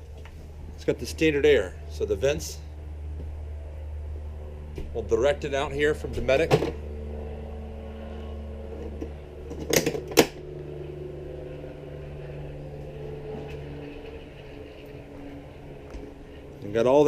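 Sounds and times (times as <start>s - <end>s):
motor humming: 1.7s - 17.0s.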